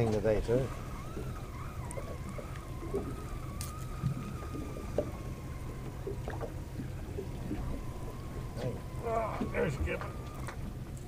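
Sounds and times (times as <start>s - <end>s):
boat motor rumble and whine: 0.0s - 11.0s.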